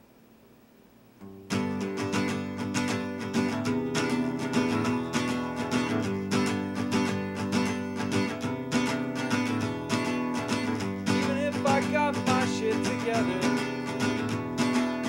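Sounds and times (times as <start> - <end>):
acoustic guitar strumming: 1.2 - 15.0.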